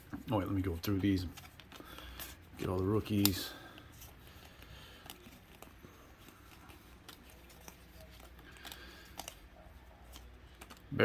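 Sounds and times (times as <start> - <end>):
low room hum: 0.0 - 11.0
trading cards being handled: 0.0 - 11.0.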